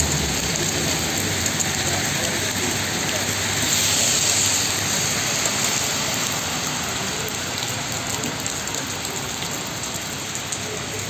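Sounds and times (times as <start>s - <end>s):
heavy rain on a street: 0.0s - 11.0s.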